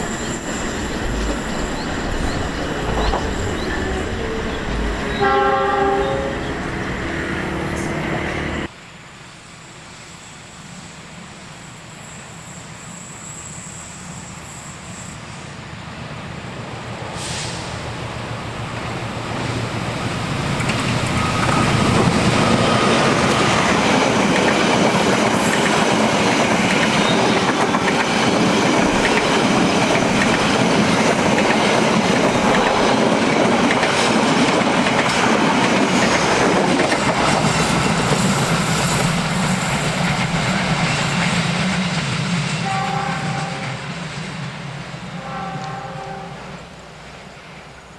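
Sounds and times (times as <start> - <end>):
diesel train approaching: 0.0 - 47.9.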